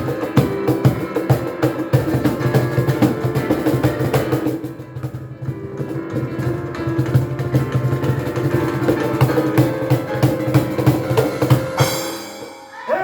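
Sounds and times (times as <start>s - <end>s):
hand percussion beat: 0.0s - 12.9s
street piano playing held notes: 0.0s - 13.0s.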